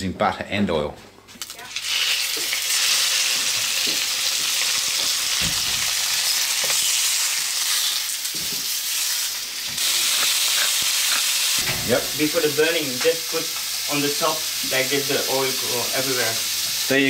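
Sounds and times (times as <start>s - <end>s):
fish sizzling in a skillet: 1.4s - 11.6s, 12.2s - 17.0s.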